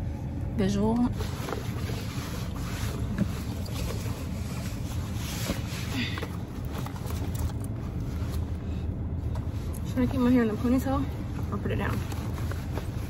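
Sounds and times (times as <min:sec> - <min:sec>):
low rumble inside car: 0:00.0 - 0:13.0
body shifting on car seat: 0:01.1 - 0:08.6, 0:09.2 - 0:13.0
clothing rustling: 0:01.1 - 0:13.0.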